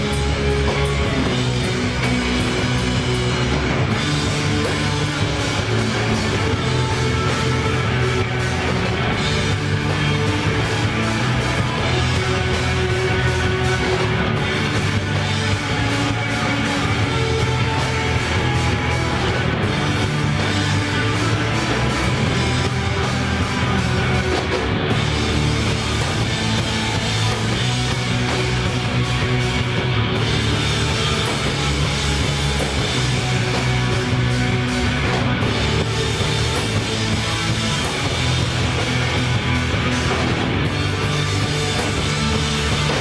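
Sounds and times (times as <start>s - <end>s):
bass guitar: 0.0s - 43.0s
drum kit: 0.0s - 43.0s
electric guitars: 0.0s - 43.0s.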